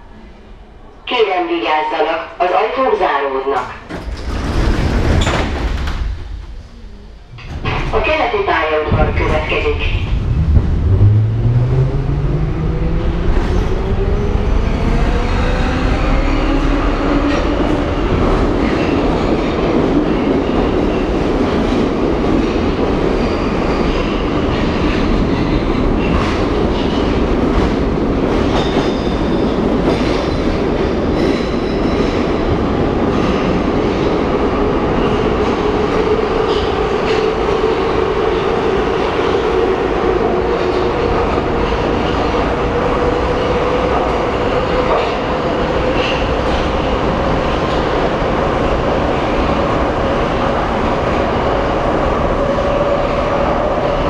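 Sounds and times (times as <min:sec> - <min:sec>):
train rolling and rail noise: 0:00.0 - 0:54.0.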